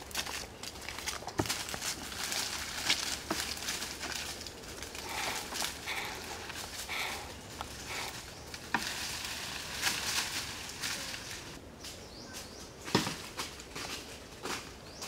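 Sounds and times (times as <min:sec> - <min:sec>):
footsteps crunching through dry leaves: 0:00.0 - 0:15.0.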